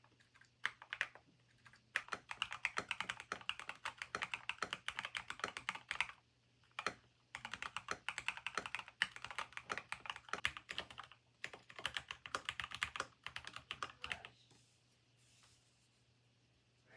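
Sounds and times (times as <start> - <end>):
mechanical keyboard typing: 0.0 - 14.3.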